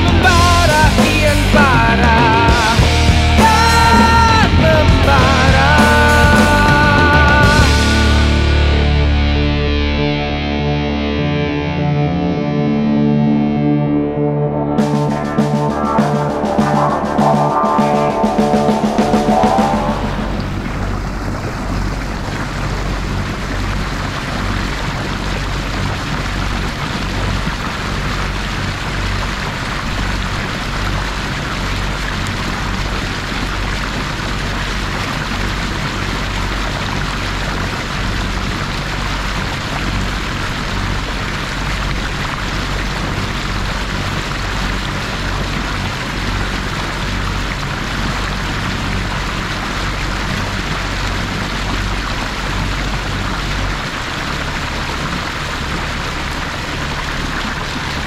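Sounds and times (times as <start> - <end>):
water splashing along hull: 0.0 - 9.3, 14.8 - 58.0
boat engine humming: 0.0 - 58.0.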